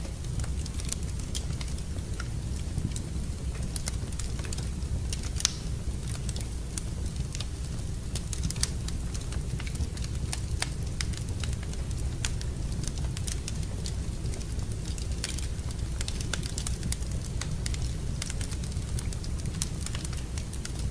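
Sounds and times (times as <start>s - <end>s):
fire crackling in a fireplace: 0.0s - 20.9s.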